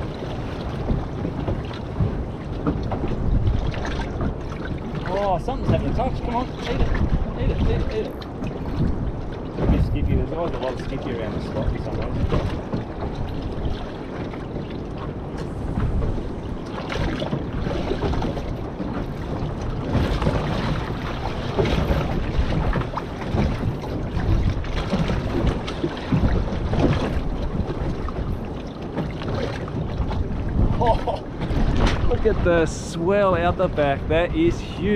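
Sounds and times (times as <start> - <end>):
waves washing around boat: 0.0 - 34.9
wind buffeting microphone: 0.0 - 34.9.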